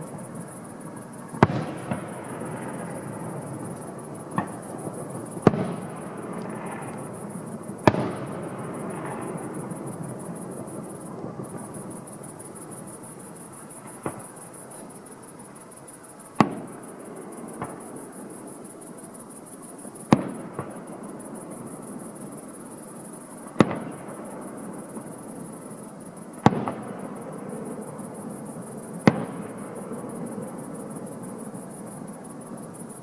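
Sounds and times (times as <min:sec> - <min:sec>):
fireworks crackle and rumble: 0:00.0 - 0:33.0.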